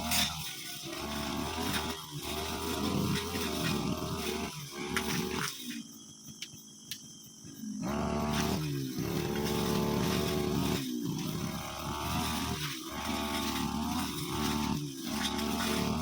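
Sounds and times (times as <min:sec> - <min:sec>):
brushcutter engine running fast: 0:00.0 - 0:05.7, 0:07.8 - 0:16.0.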